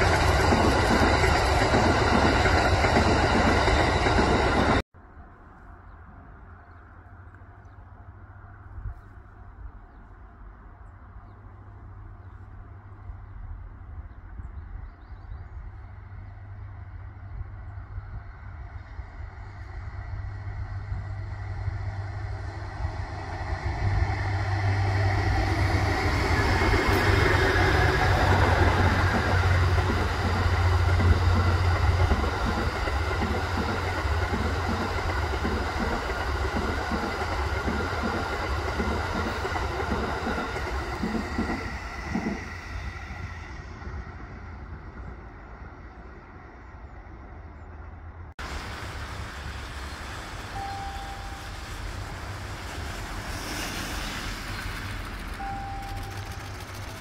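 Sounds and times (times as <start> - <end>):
passing train rumble: 0.0 - 57.0.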